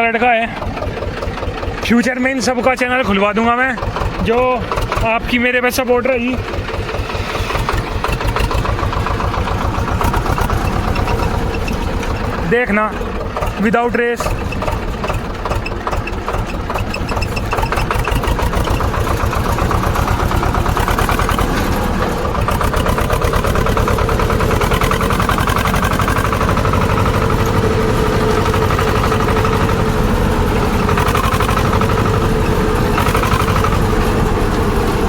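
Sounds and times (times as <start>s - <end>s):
tractor diesel engine idling: 0.0s - 35.0s.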